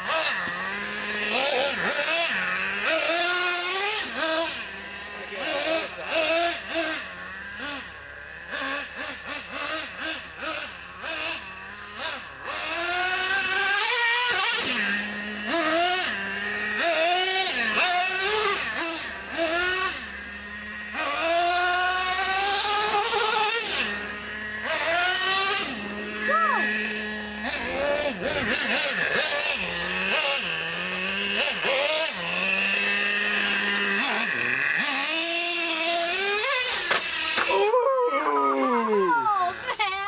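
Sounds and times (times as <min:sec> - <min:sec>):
small nitro engines revving: 0:00.0 - 0:40.0.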